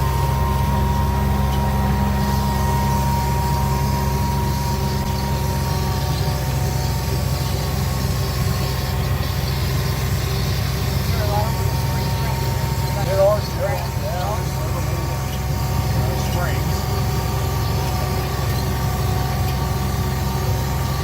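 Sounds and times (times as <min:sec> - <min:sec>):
thin steady whine: 0:00.0 - 0:21.0
vehicle engine rumbling: 0:00.0 - 0:21.0.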